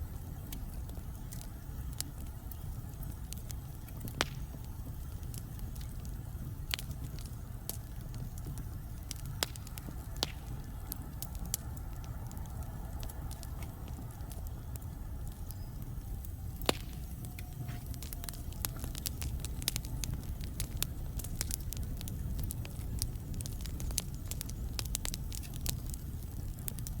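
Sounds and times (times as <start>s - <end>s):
fire crackling: 0.0s - 27.0s
low rumble of flames: 0.0s - 27.0s.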